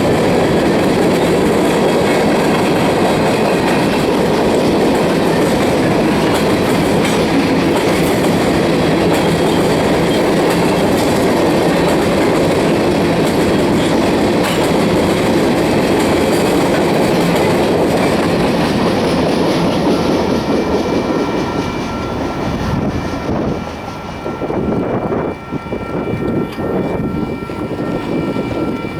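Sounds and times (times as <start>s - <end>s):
train wheels clacking over rail joints: 0.0s - 28.9s.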